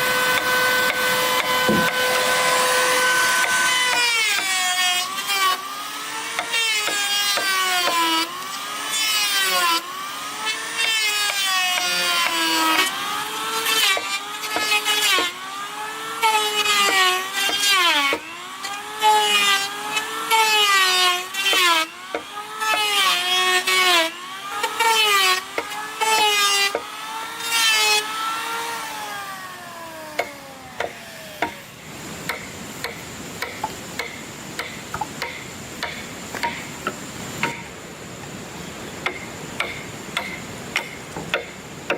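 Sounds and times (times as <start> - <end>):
saw cutting through wood: 0.0 - 37.8.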